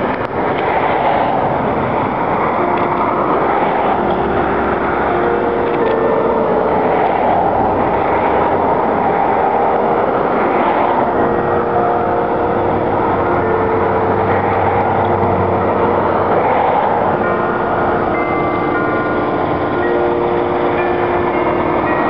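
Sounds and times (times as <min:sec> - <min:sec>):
church bells ringing: 0:00.0 - 0:22.0
loud rushing noise: 0:00.0 - 0:22.0.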